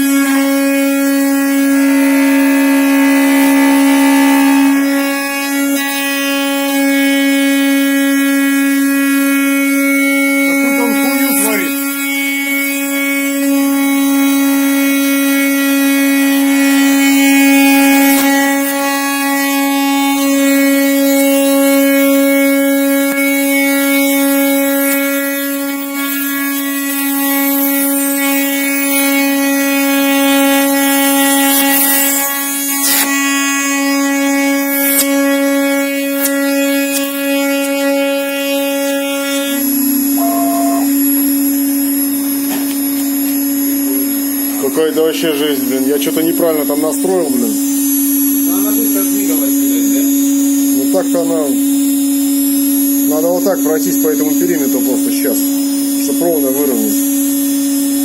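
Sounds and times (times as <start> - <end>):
cutter milling wood: 0.0 - 58.0
router spindle whine: 0.0 - 58.0.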